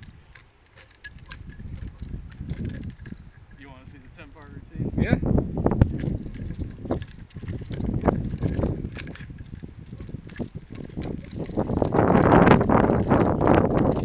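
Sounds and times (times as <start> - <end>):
nunchucks clacking and rattling: 0.0 - 3.6, 5.8 - 14.0.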